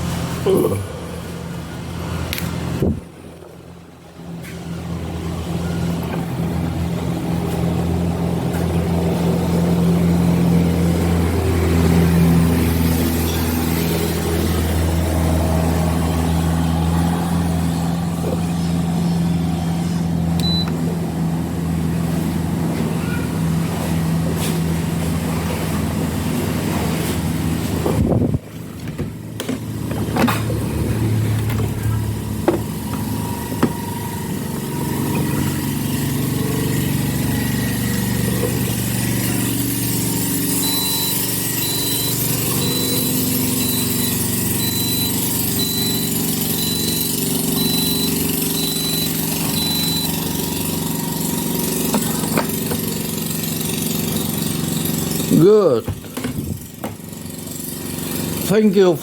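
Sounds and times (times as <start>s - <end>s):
low droning hum: 0.0s - 54.4s.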